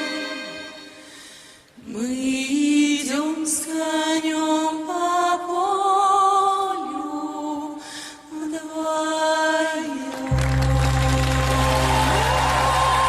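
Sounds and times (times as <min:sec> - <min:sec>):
women singing in harmony: 0:01.8 - 0:12.7.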